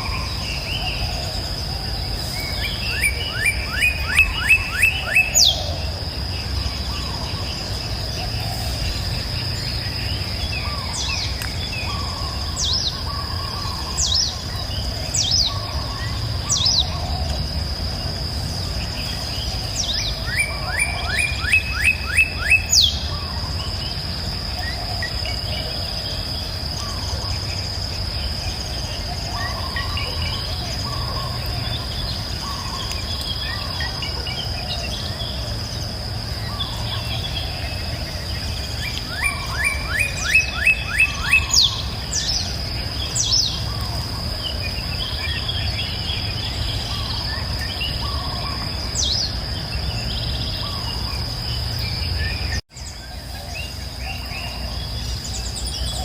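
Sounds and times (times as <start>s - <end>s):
high insect drone: 0.0s - 56.0s
songbirds chirping: 0.0s - 56.0s.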